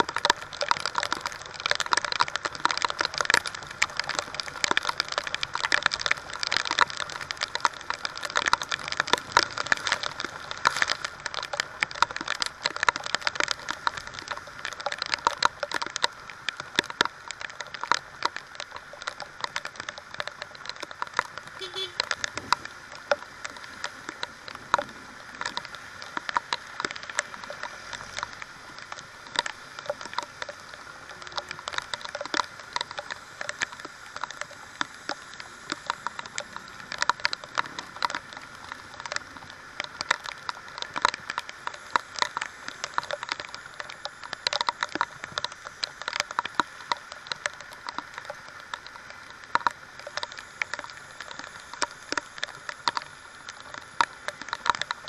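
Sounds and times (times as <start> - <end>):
rain hissing on wet road: 0.0 - 55.0
raindrops tapping on camera: 0.0 - 55.0.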